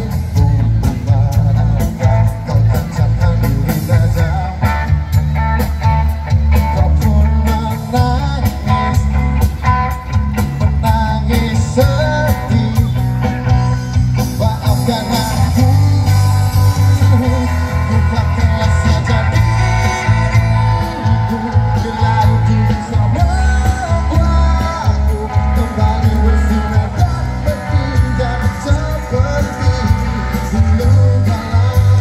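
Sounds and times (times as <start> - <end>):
heavy bass beat: 0.0 - 32.0
person singing: 0.0 - 32.0.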